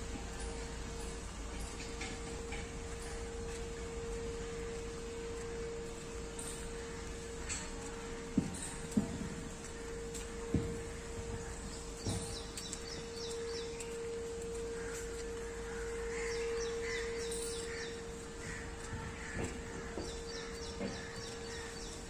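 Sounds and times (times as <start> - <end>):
birds chirping: 0.0 - 22.0
steady hum: 0.0 - 22.0.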